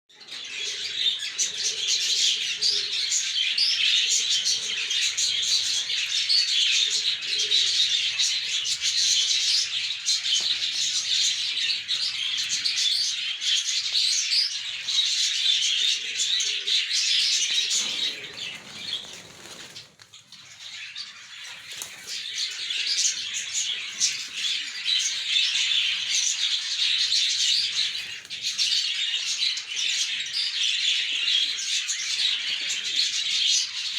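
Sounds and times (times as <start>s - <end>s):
many birds chirping: 0.1s - 33.9s
pigeons cooing: 0.2s - 33.9s.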